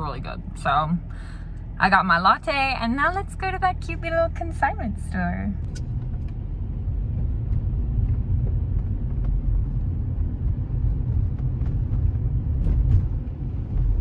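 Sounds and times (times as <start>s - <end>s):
street noise rumble: 0.0s - 14.0s.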